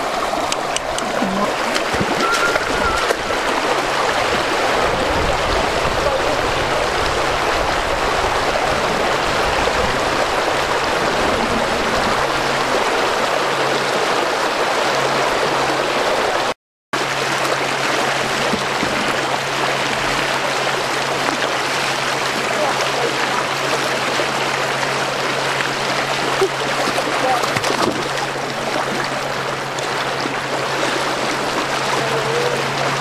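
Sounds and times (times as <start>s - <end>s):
river water rushing over shallows: 0.0s - 33.0s.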